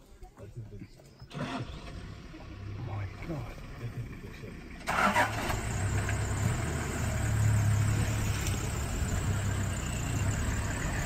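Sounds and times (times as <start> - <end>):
vehicle engine idling: 1.3 - 11.0.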